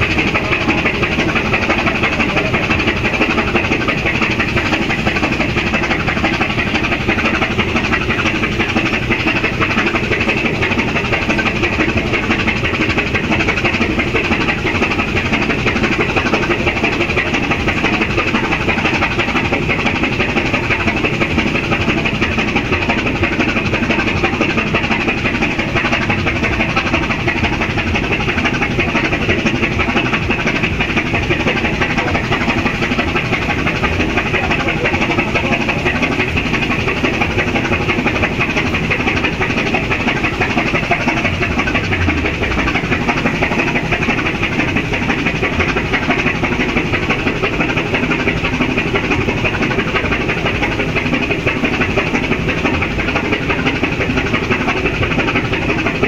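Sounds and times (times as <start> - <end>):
ship diesel engine droning: 0.0 - 56.0.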